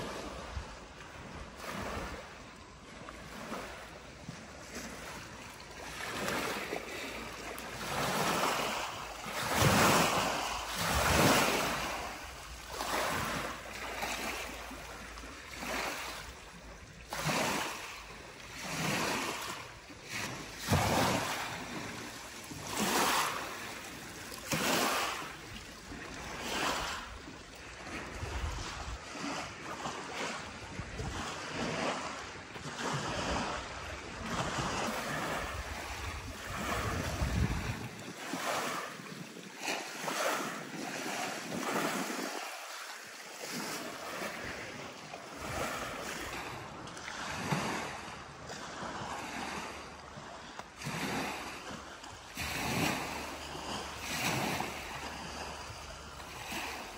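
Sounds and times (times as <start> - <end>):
lake waves washing on pebbles: 0.0 - 56.9.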